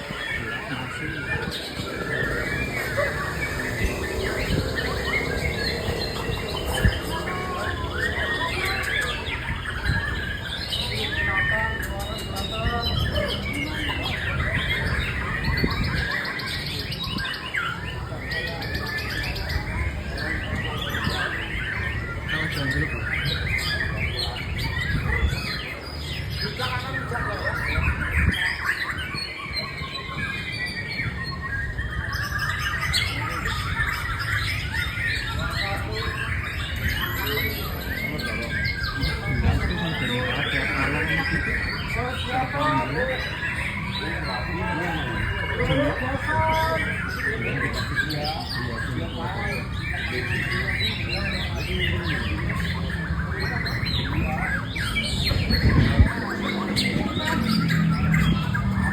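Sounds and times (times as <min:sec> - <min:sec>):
bird singing whistles and chirps: 0:00.0 - 0:58.9.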